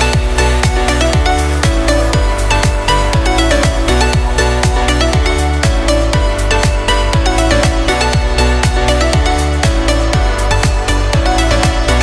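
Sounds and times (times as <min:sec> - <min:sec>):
electronic dance music: 0:00.0 - 0:12.0
kick drum: 0:00.0 - 0:12.0.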